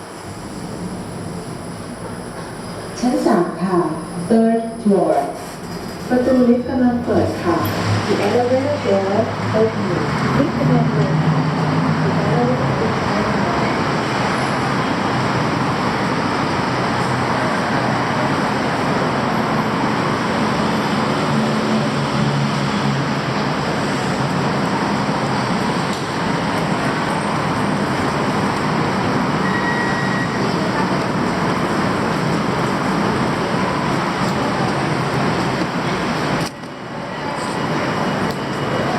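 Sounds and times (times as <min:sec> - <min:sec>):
loud city traffic: 0:03.1 - 0:38.9.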